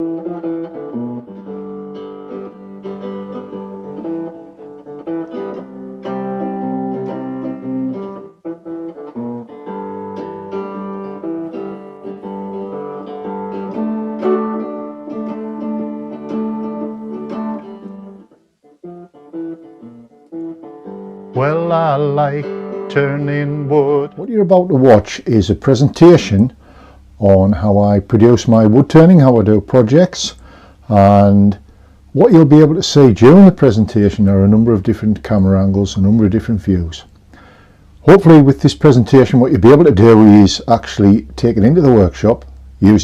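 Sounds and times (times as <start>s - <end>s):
plucked guitar music: 0.0s - 43.0s.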